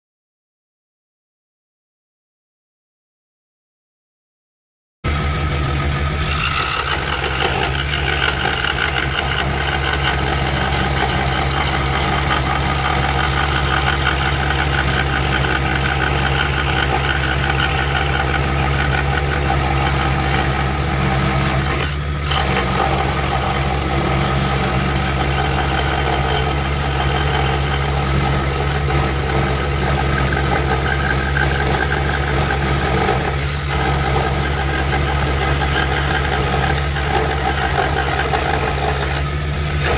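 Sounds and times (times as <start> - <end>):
scroll saw cutting wood: 5.1 - 39.9.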